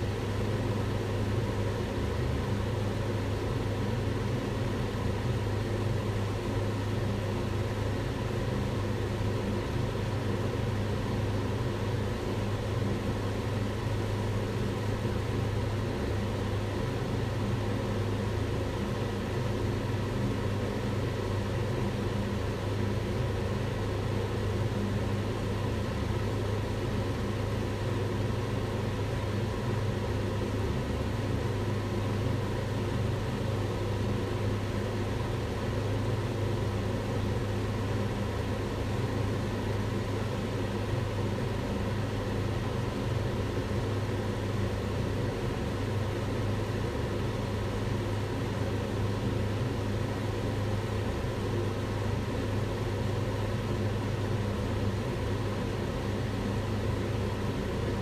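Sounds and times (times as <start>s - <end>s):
range hood fan running: 0.0s - 58.0s.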